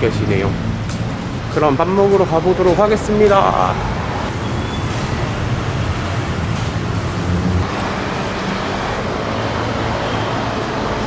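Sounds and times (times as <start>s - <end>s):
cars and motorbikes passing: 0.0s - 11.0s
heavy low engine drone: 0.0s - 11.0s.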